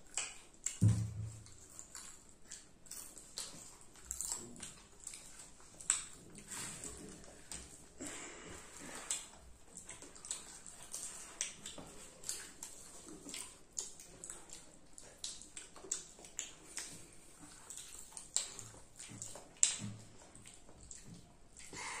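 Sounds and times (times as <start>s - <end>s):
children chewing popcorn: 0.0s - 22.0s.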